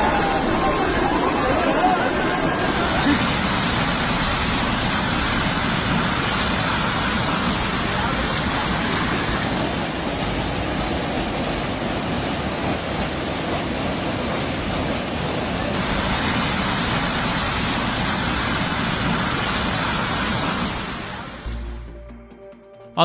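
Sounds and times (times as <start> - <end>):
floodwater rushing: 0.1 - 21.6.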